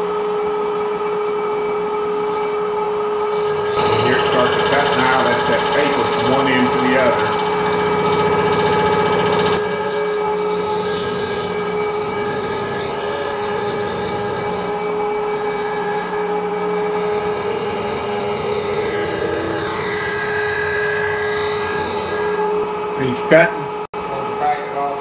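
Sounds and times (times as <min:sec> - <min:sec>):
surfacing machine whine and hiss: 0:00.0 - 0:25.0.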